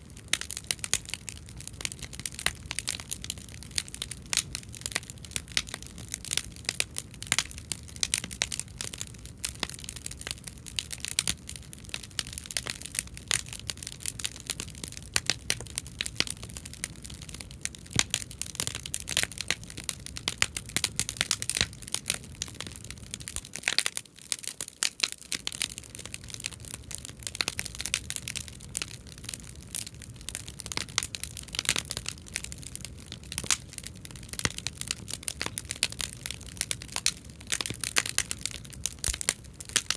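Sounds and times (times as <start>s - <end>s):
bonfire crackling and popping: 0.0s - 39.9s
low fire rumble: 0.0s - 39.9s.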